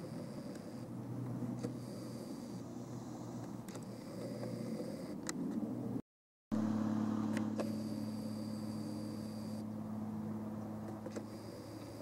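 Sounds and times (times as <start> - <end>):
faint high whine: 0.0 - 5.9, 6.6 - 12.0
low mechanical hum: 0.0 - 6.0, 6.6 - 12.0.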